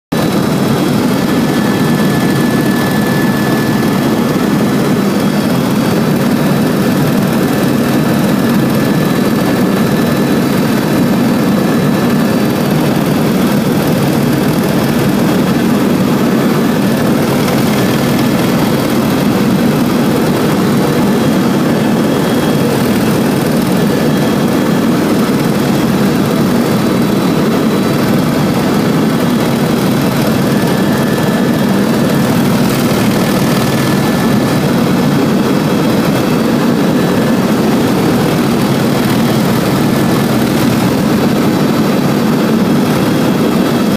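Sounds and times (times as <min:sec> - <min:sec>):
helicopter engine and rotor drone: 0:00.1 - 0:43.9.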